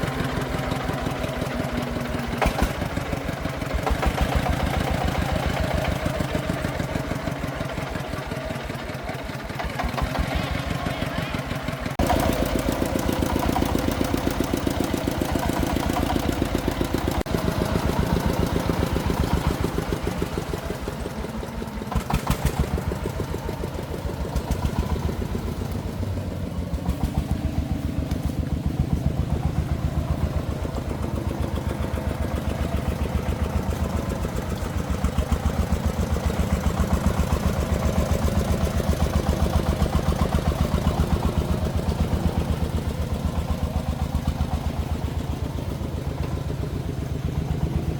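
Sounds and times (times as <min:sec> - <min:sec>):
diesel engine chugging: 0:00.0 - 0:47.9.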